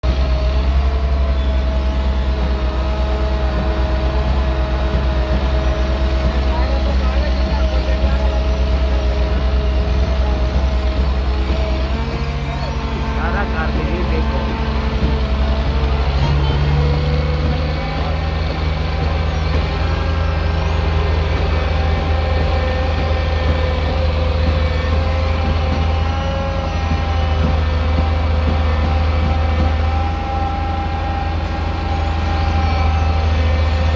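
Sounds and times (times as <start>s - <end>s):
heavy diesel engine rumbling: 0.0s - 33.9s.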